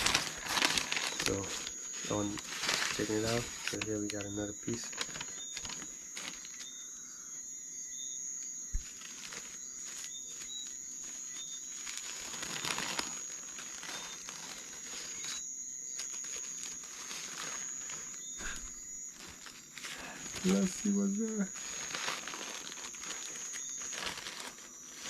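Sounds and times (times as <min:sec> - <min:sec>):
packaging crinkling and rustling: 0:00.0 - 0:06.7, 0:08.7 - 0:25.0.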